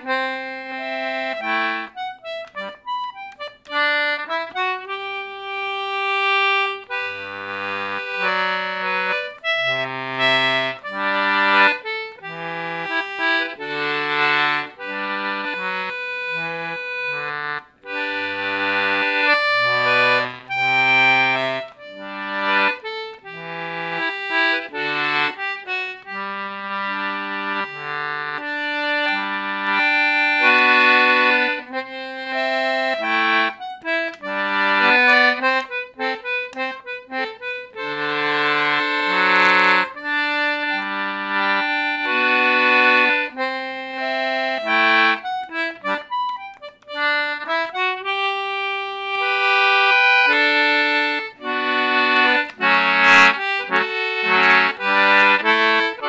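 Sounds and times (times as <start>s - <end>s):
concertina bass notes and chords: 0.0s - 56.0s
concertina melody: 0.0s - 56.0s.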